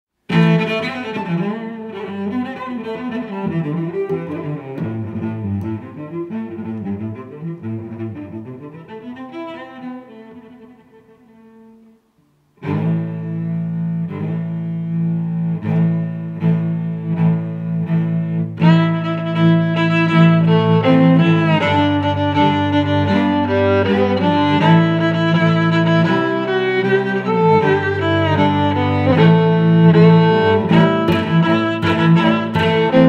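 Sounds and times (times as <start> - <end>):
orchestral music with bowed strings: 0.3 - 33.0.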